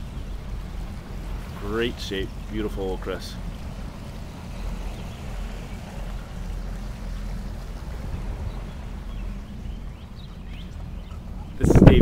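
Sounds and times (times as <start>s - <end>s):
motorboat engine rumbling: 0.0s - 12.0s
water and air noise: 0.0s - 12.0s.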